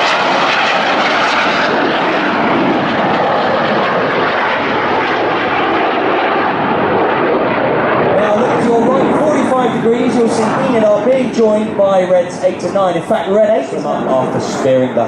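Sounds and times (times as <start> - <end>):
jets roaring overhead: 0.0 - 15.0.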